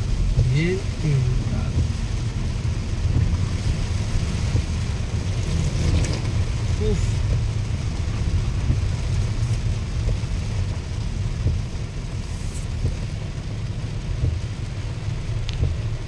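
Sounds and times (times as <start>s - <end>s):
low car rumble: 0.0s - 16.0s
rain hissing: 0.0s - 16.0s
water under tyres: 0.0s - 16.0s.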